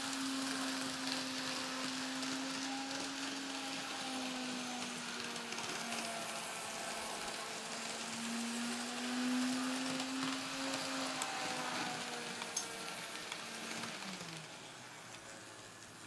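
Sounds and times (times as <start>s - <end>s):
model train motor whine: 0.0s - 16.0s
small wheels rolling on track: 0.0s - 16.0s.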